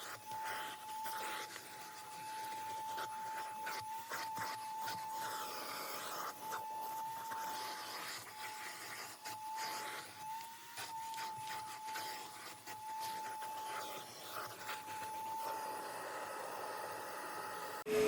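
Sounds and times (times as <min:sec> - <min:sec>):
scrubbing strokes: 0:00.0 - 0:15.6
small motor whining: 0:00.0 - 0:18.0.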